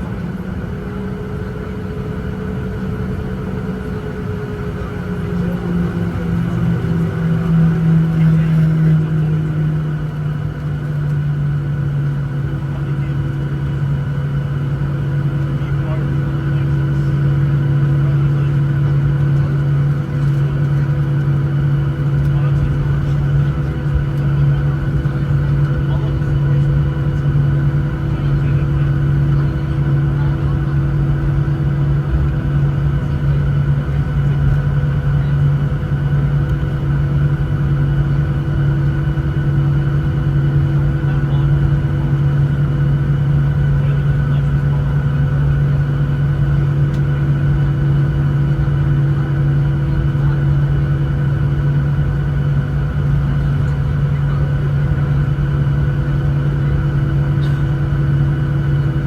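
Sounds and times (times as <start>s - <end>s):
aircraft engines idling drone: 0.0s - 59.0s.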